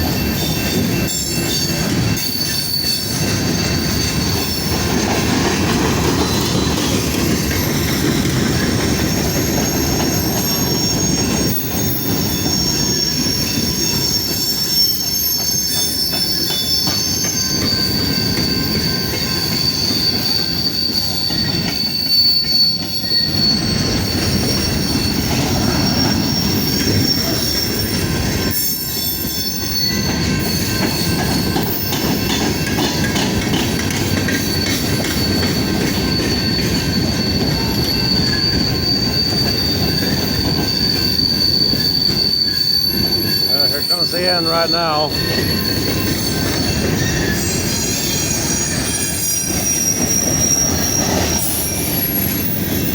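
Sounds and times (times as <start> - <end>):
freight train cars rumbling: 0.0 - 52.9
high wheel squeal: 0.0 - 52.9.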